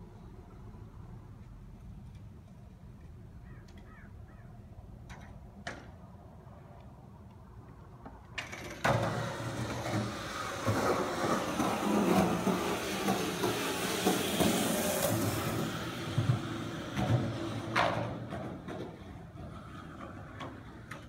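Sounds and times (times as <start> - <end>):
skateboard wheels rolling on concrete: 0.0 - 21.0.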